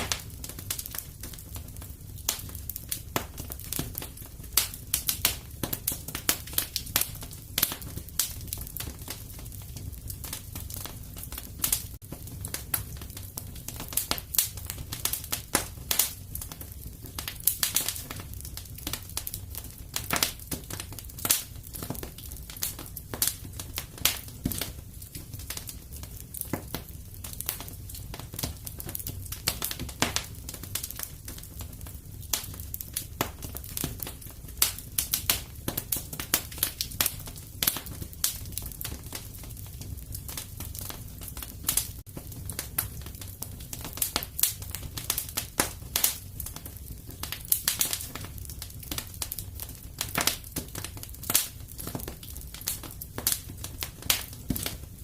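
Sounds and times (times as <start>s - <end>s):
fireplace fire crackling: 0.0s - 55.0s
low fire rumble: 0.0s - 55.0s.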